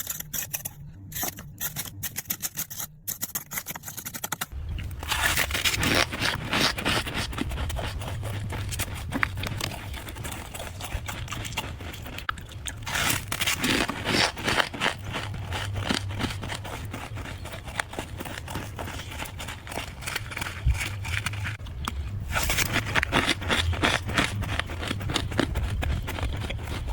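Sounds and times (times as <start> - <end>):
freezer frost scraped and crunched: 0.0 - 21.6, 22.2 - 26.9
steady low hum: 0.0 - 26.9.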